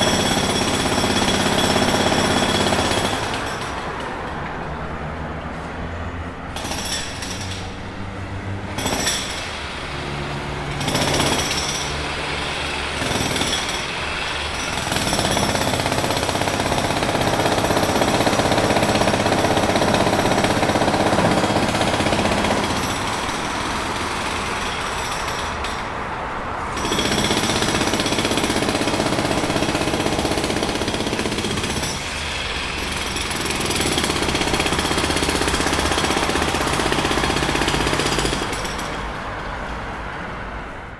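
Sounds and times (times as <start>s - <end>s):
jackhammer pounding: 0.0s - 5.2s, 5.9s - 26.0s, 26.6s - 39.3s.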